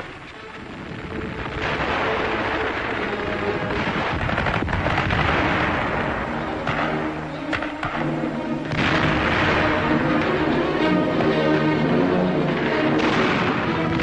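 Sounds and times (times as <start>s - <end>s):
gunfire and explosions: 0.0s - 14.0s.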